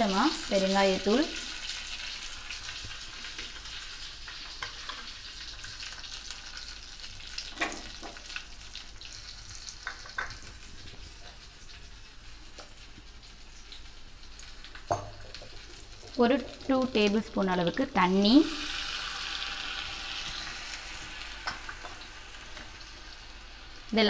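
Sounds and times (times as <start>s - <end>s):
oil sizzling in a pan: 0.0s - 24.0s.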